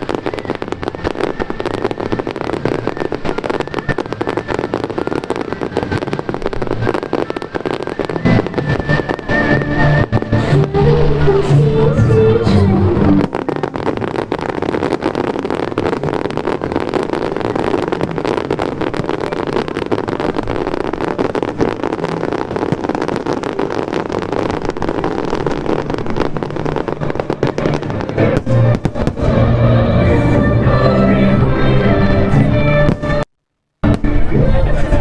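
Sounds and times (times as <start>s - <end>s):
fireworks crackling: 0.0s - 35.0s
show music: 0.0s - 35.0s.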